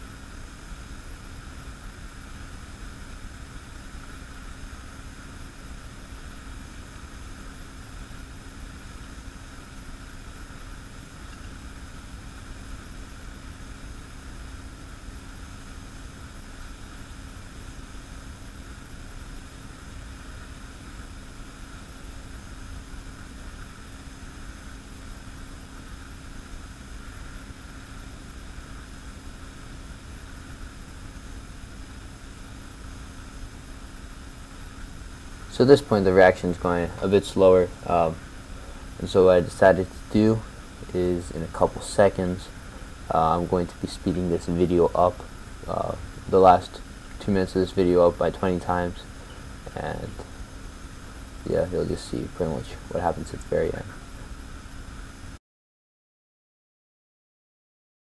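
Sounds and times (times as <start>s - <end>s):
machine hum with rumble: 0.0s - 55.4s.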